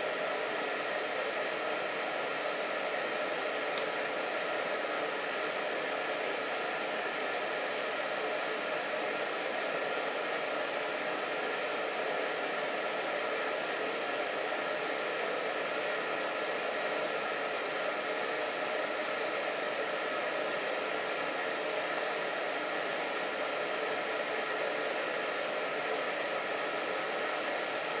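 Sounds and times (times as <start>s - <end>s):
electric blower fan whirring: 0.0s - 28.0s.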